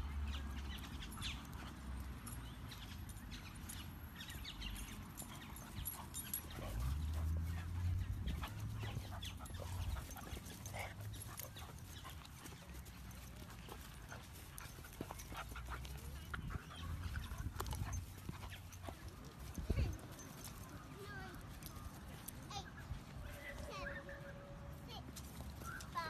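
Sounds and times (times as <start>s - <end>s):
dogs scuffling on grass: 0.3s - 26.0s.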